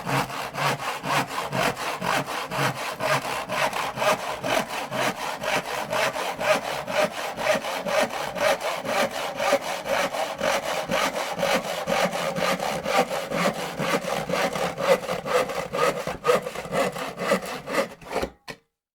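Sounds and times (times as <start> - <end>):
hand saw cutting wood: 0.0 - 18.6.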